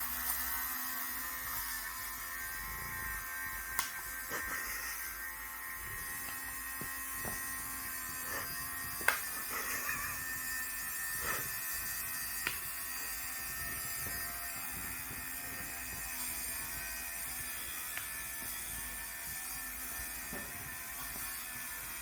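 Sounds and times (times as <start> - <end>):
small motor humming: 0.0 - 22.0.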